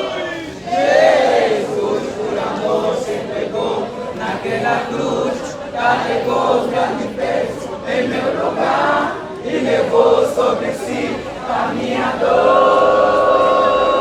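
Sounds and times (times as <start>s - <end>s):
crowd singing together: 0.0s - 14.0s.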